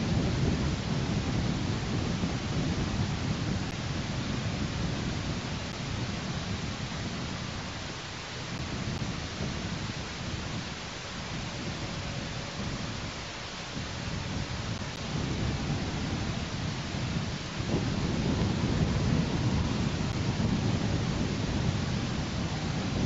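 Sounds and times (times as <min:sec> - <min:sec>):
wind on microphone: 0:00.0 - 0:23.0.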